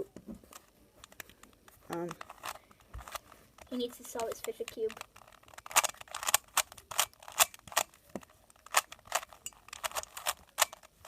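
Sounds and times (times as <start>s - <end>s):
plastic puzzle clicking: 0.4s - 11.0s.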